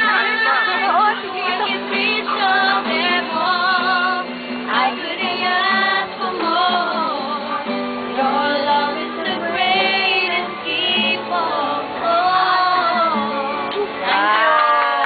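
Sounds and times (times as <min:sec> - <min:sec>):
group of voices singing: 0:00.0 - 0:14.6.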